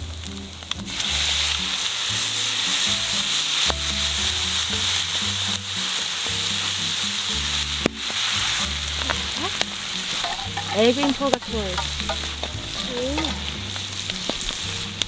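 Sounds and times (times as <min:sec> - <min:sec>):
food sizzling in a pan: 0:00.0 - 0:15.0
music with low bass notes: 0:00.0 - 0:15.0.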